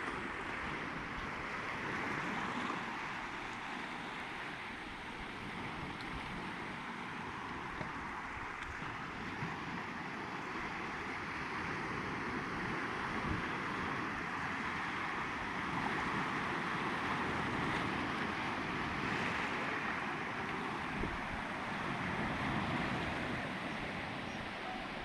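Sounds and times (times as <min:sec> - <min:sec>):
sea rushing: 0:00.0 - 0:25.0.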